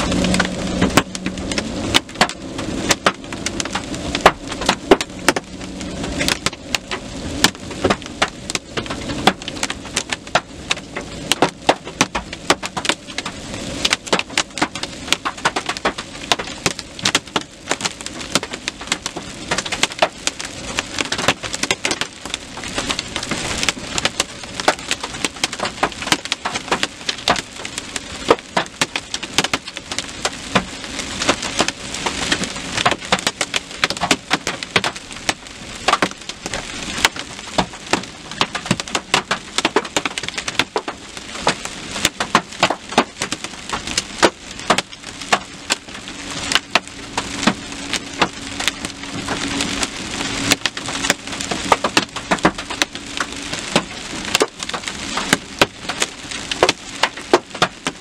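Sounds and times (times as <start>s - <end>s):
hail striking vehicle: 0.0s - 58.0s
heavy rain hiss: 0.0s - 58.0s.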